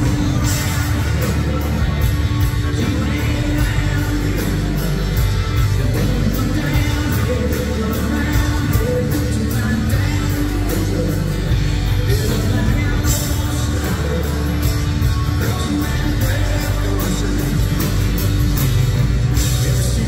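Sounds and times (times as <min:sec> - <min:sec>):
man singing: 0:00.0 - 0:18.5, 0:19.2 - 0:20.0
electric guitar: 0:00.0 - 0:20.0
live country rock band: 0:00.0 - 0:20.0
steady drum beat: 0:00.0 - 0:20.0.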